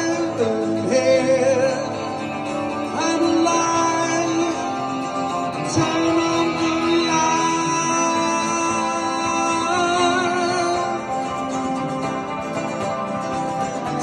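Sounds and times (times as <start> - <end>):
acoustic guitar strumming: 0.0 - 14.0
electric guitar bending notes: 0.0 - 14.0.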